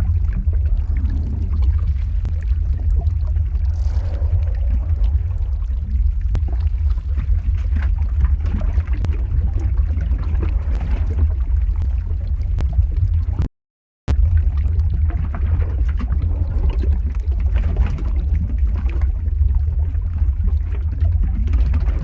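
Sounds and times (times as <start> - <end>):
crackling and popping: 0.0 - 13.5, 14.1 - 22.0
deep lava rumble: 0.0 - 13.5, 14.1 - 22.0.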